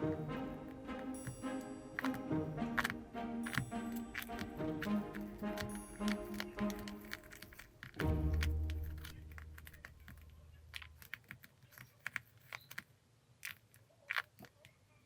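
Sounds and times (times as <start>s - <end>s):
sticky tape crinkling: 1.2s - 14.8s
squishy toy clicks and crackles: 2.0s - 15.0s.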